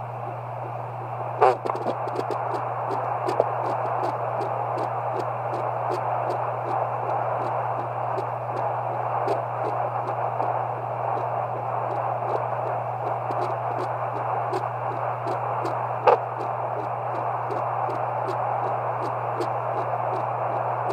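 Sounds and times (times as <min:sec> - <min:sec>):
static hiss and hum: 0:00.0 - 0:20.9
fetal heartbeat on doppler: 0:01.4 - 0:20.9.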